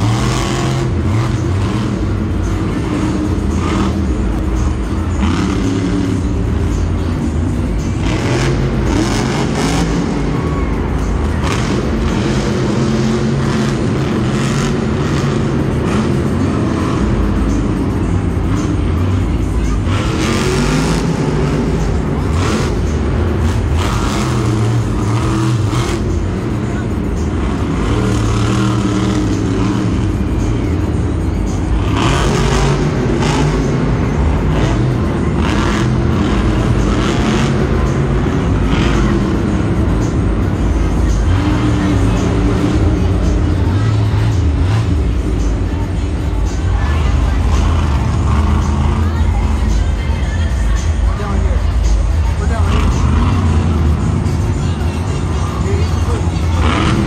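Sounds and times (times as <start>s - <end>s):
monster truck engine running loud: 0.0s - 57.0s.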